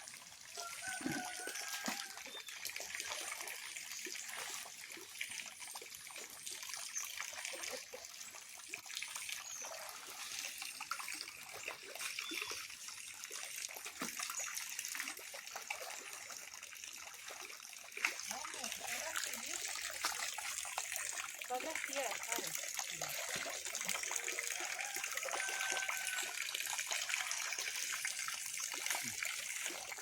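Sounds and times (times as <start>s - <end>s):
small water splashes: 0.0s - 30.0s
water trickling in a pond: 0.0s - 30.0s.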